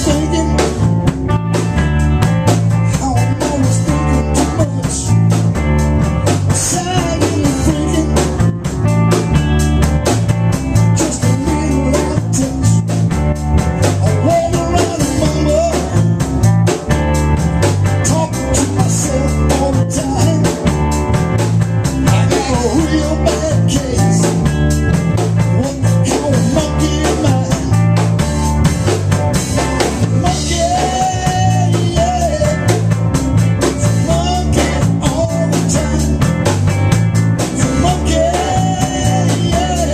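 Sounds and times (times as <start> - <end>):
bass line: 0.0 - 39.9
drum kit steady beat: 0.0 - 39.9
guitar: 0.0 - 39.9.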